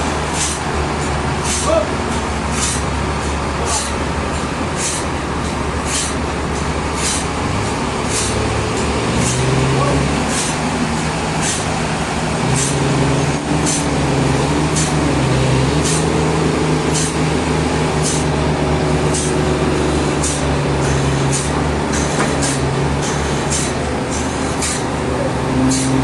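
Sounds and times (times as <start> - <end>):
sawmill machinery droning: 0.0 - 26.0.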